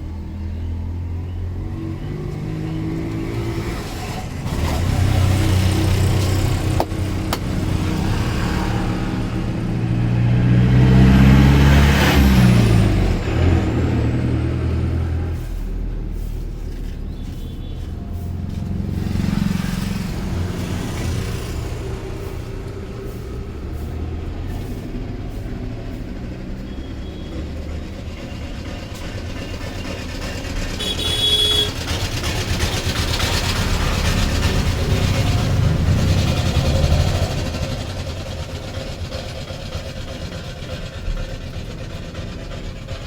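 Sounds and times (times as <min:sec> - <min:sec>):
loud vehicle passing: 0:00.0 - 0:43.0
traffic rumble: 0:00.0 - 0:43.0.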